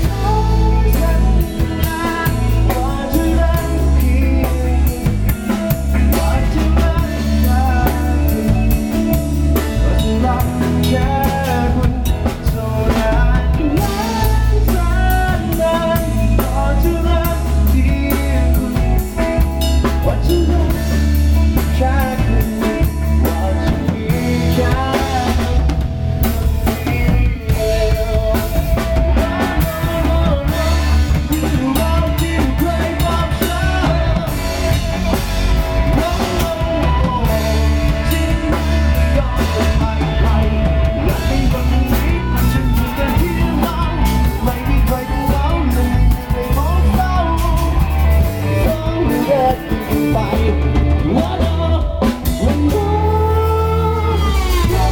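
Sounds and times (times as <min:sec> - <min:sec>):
background music with drum beat: 0:00.0 - 0:54.9.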